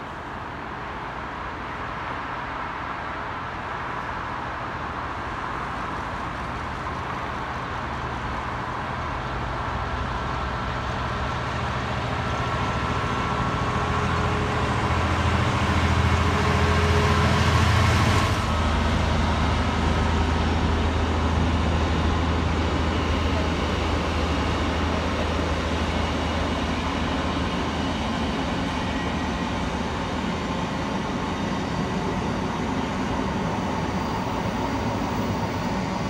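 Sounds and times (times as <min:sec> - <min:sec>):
diesel locomotive engine drone: 0:00.0 - 0:36.0.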